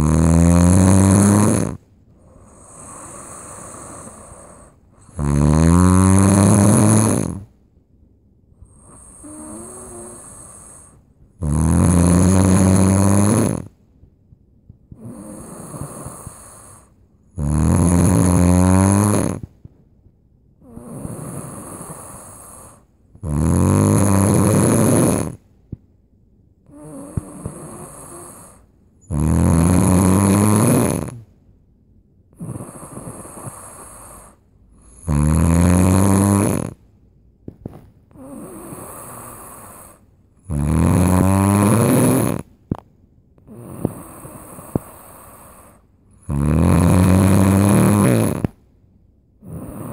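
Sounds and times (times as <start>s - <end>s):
person snoring loudly: 0.0s - 7.5s, 8.7s - 13.7s, 15.0s - 19.5s, 20.6s - 25.4s, 26.7s - 31.2s, 32.4s - 36.8s, 38.2s - 42.5s, 43.5s - 48.6s, 49.4s - 49.9s.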